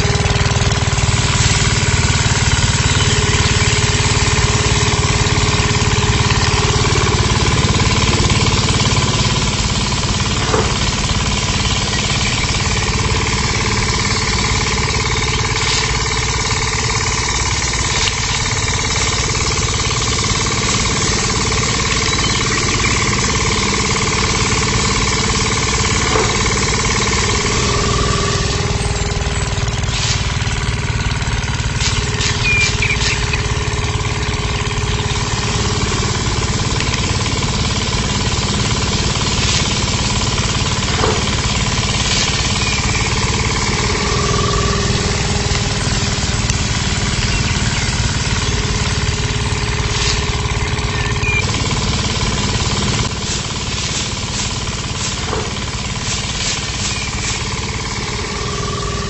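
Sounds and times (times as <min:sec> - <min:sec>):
grain and straw ticking: 0:00.0 - 0:59.0
small electric motor running: 0:00.0 - 0:59.0.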